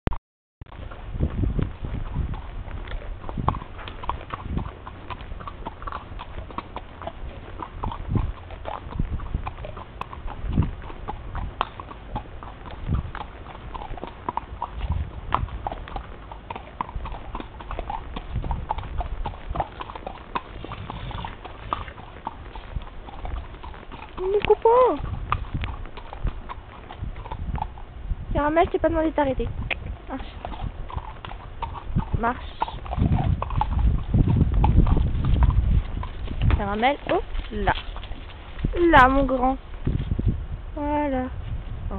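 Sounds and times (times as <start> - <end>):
horse hooves clip-clopping: 0.7 - 41.9
steady low rumble: 0.8 - 41.9.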